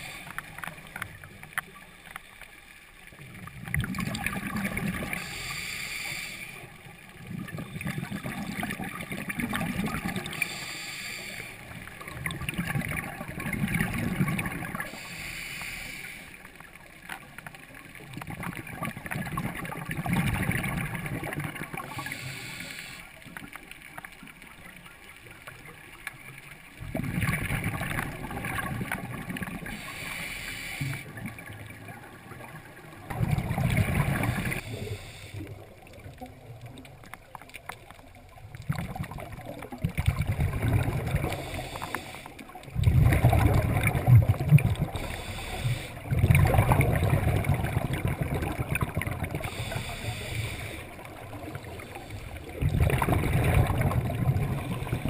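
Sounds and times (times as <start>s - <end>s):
regulator exhaust bubbles underwater: 3.1s - 5.6s, 7.0s - 10.8s, 11.6s - 15.1s, 17.0s - 22.5s, 23.2s - 30.0s, 30.9s - 55.0s.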